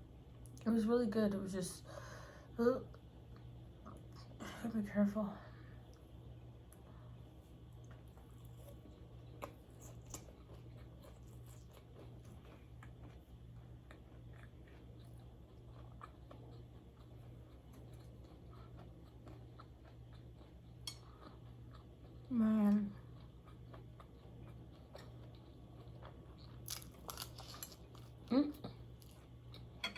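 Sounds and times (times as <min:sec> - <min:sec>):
steady low hum: 0:00.0 - 0:29.9
faint chewing and mouth sounds: 0:02.9 - 0:04.4, 0:05.5 - 0:29.8.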